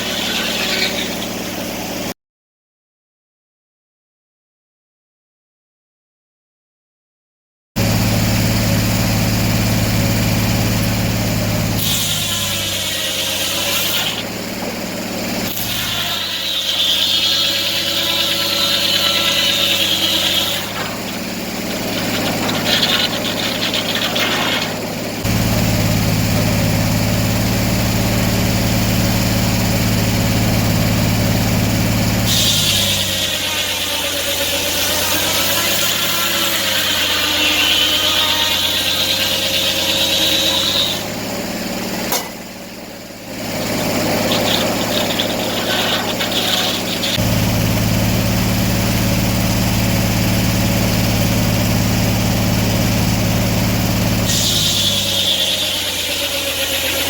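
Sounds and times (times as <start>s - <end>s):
sawmill engine running: 0.0s - 2.1s, 7.8s - 57.0s
saw cutting wood: 0.0s - 2.2s, 8.6s - 57.0s.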